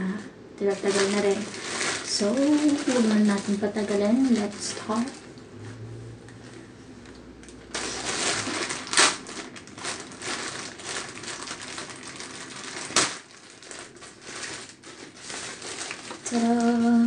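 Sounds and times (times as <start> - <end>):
plastic bag crinkling: 0.6 - 5.4, 7.0 - 17.0
plastic bag ripping: 0.7 - 5.3, 7.4 - 17.0.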